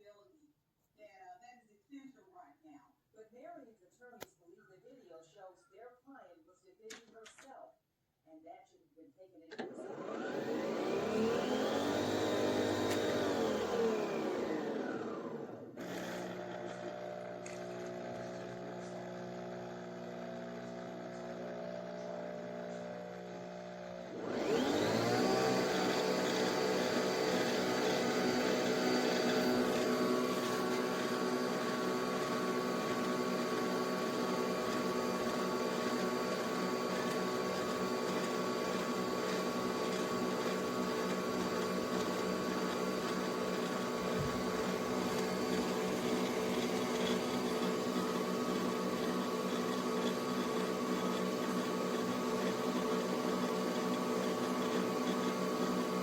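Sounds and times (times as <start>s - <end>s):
coffee machine motor hum: 9.9s - 56.0s.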